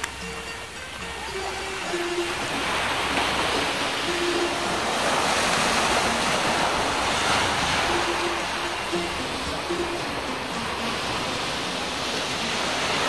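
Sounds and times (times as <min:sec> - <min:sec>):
small waves washing onto sand: 0:00.0 - 0:13.0.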